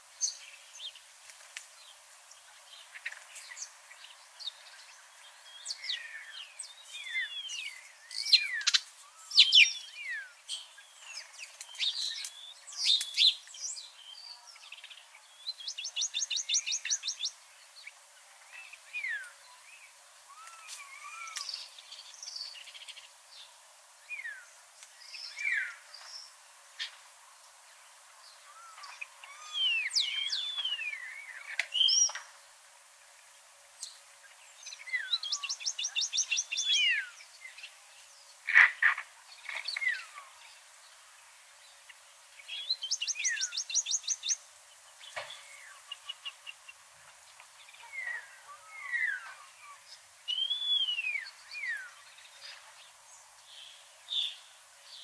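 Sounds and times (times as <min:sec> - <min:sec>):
songbirds chirping and singing: 0:00.1 - 0:55.0.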